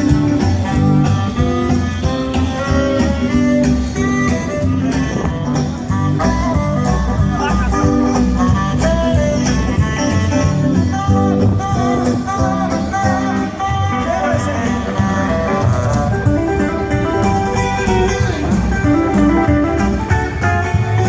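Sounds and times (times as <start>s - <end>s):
guitar: 0.0s - 21.0s
live band playing: 0.0s - 21.0s.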